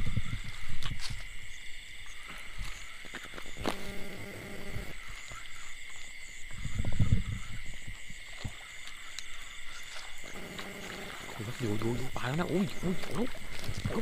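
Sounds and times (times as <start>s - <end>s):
frogs calling in chorus: 0.0s - 14.0s.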